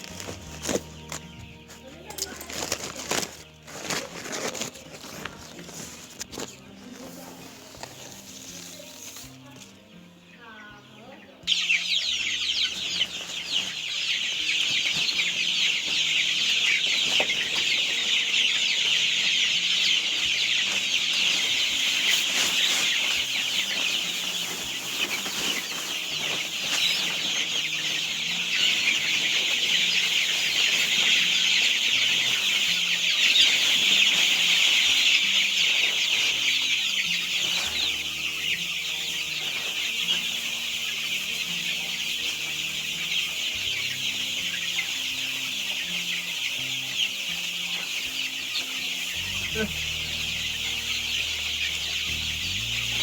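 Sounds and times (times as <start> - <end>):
chicks cheeping: 0.0 - 53.0.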